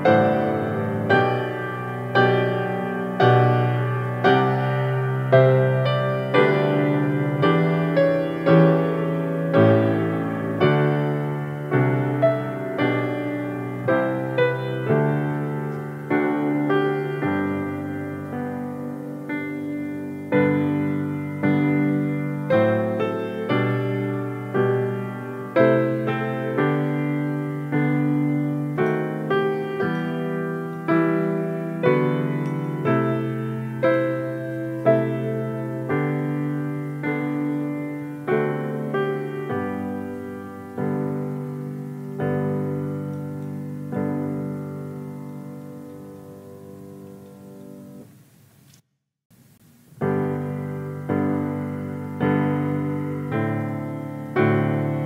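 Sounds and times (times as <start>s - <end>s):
slow gentle piano chords: 0.0s - 48.7s, 49.4s - 55.0s.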